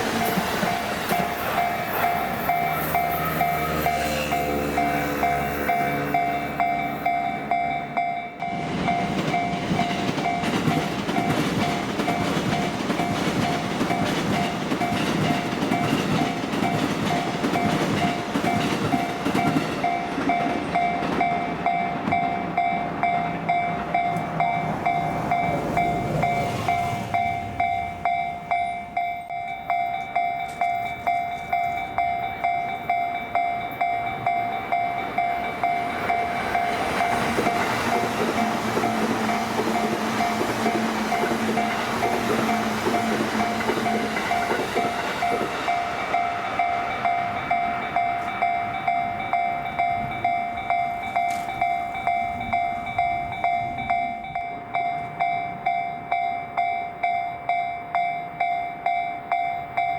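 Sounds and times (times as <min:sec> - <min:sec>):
wheels clacking over rail joints: 0:00.0 - 0:55.8
level-crossing warning bell: 0:00.0 - 0:59.9
train rumbling past: 0:00.0 - 0:59.9.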